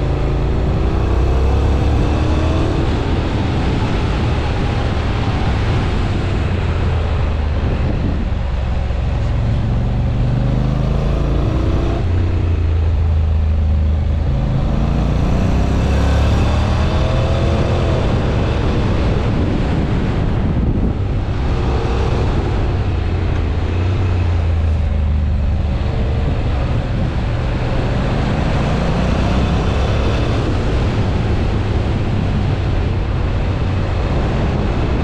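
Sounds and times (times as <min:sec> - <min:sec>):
motorcycle engine accelerating: 0:00.0 - 0:35.0
wind and road noise: 0:00.0 - 0:35.0.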